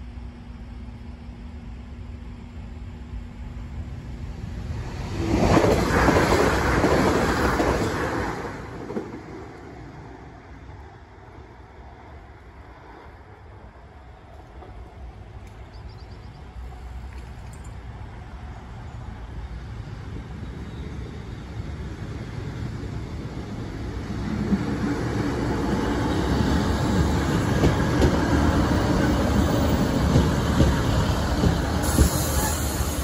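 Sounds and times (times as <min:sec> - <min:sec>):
diesel train engine: 0:00.0 - 0:33.0.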